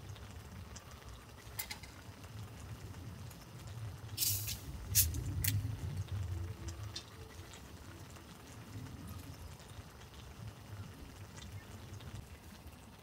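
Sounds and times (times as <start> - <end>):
pan simmering: 0.0 - 13.0.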